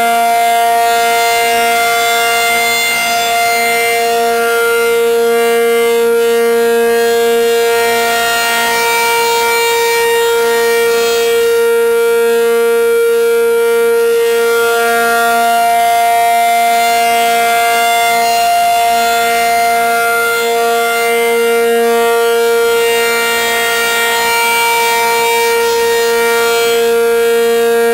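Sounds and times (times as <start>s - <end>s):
two-note warning siren: 0.0s - 27.9s.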